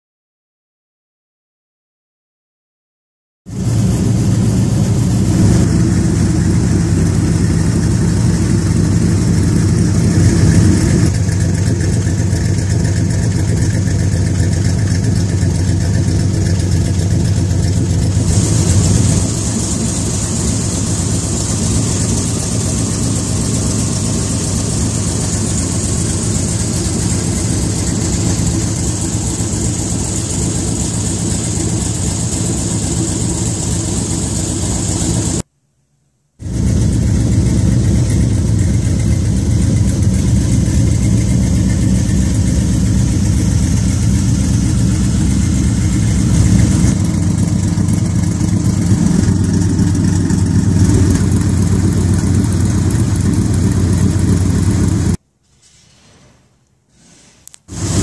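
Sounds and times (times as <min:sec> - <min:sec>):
car engine idling: 0:03.5 - 0:35.4, 0:36.4 - 0:55.2, 0:57.7 - 0:58.0.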